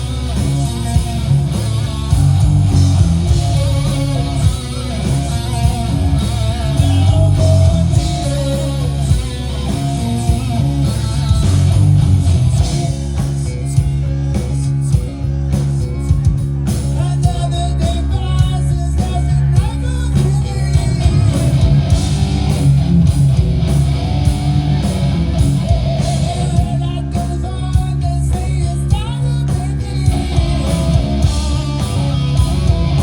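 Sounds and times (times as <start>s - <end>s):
rock music with electric guitar: 0.0s - 33.0s.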